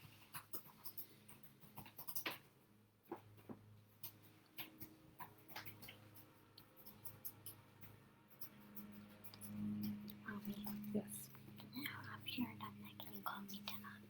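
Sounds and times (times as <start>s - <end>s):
pen tapping and scratching on paper: 0.0s - 14.0s
low steady hum: 2.4s - 14.0s.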